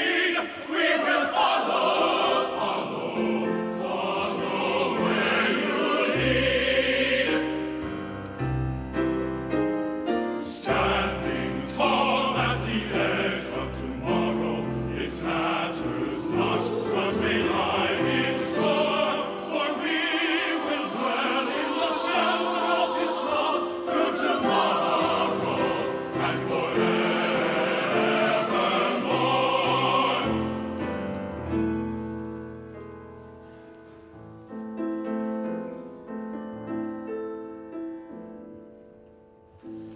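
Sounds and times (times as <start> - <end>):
choir singing with orchestra: 0.0 - 32.4.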